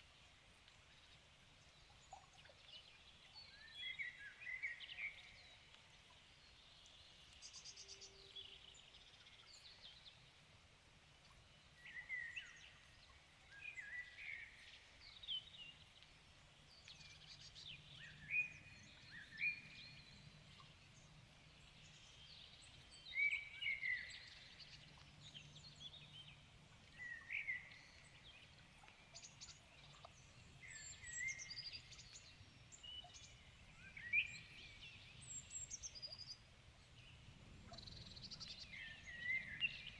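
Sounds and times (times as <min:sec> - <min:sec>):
faint background hiss: 0:00.0 - 0:39.9
songbirds chirping: 0:00.2 - 0:39.9.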